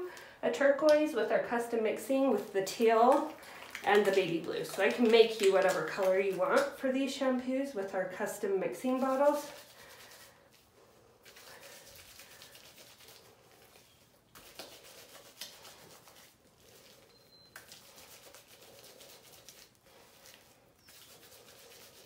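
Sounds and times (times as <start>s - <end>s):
wet squishing of shampoo lather: 0.8s - 10.6s, 11.2s - 22.0s.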